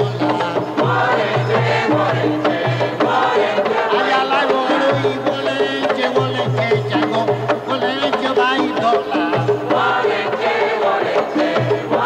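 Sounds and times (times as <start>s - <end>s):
hand drums beating: 0.0s - 12.0s.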